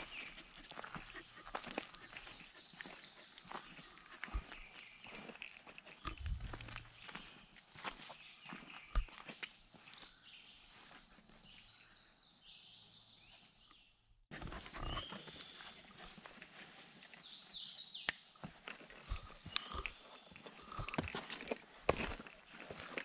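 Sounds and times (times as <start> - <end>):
footsteps on dirt trail: 0.0 - 11.9, 14.8 - 23.0.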